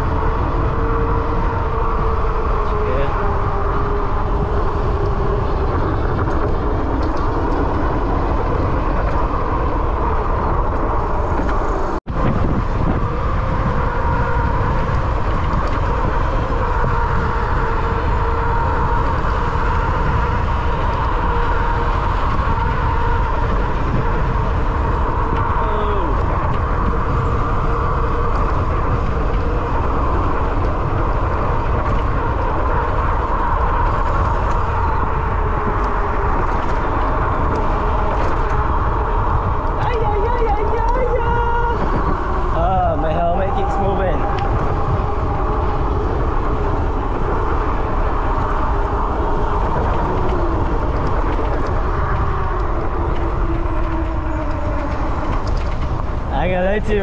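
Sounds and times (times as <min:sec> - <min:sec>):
bike road noise: 0:00.0 - 0:57.0
wind rushing over microphone: 0:00.0 - 0:57.0.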